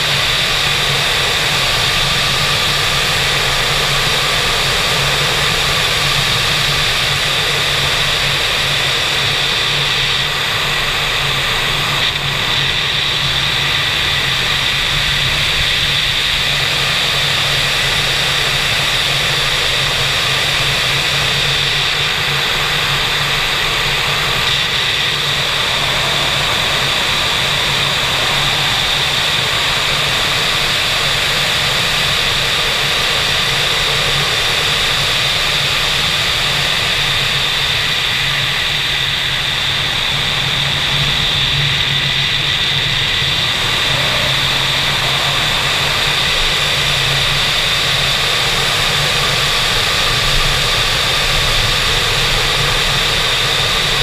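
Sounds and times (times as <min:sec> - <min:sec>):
wind roaring over camera: 0:00.0 - 0:54.0.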